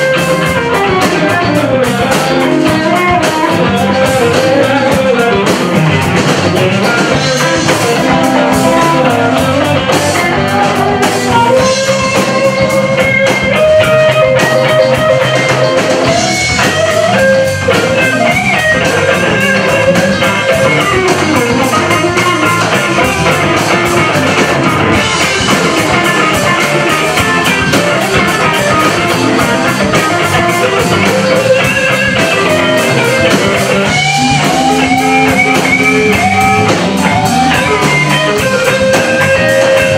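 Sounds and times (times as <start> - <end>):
blues-rock band playing: 0.0 - 39.9
lead guitar: 0.0 - 39.9.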